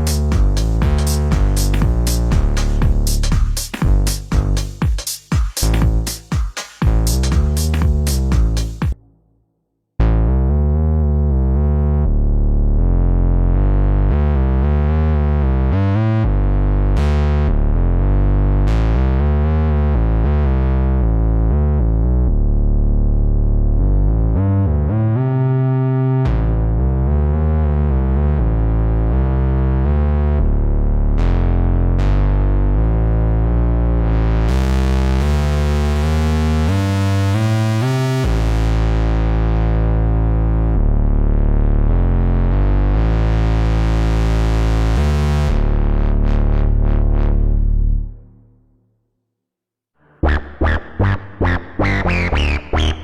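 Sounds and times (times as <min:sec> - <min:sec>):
synthesizer bass notes: 0:00.0 - 0:09.2, 0:10.0 - 0:48.7, 0:50.0 - 0:53.0.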